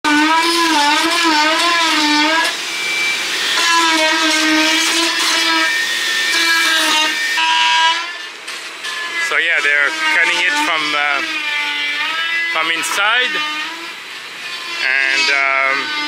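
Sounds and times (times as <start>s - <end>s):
power tool whining: 0.1s - 16.0s.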